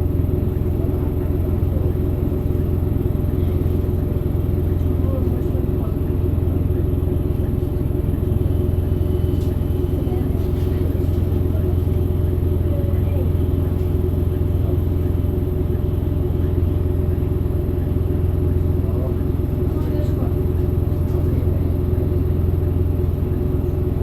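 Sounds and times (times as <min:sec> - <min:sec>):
diesel bus engine running: 0:00.0 - 0:24.0.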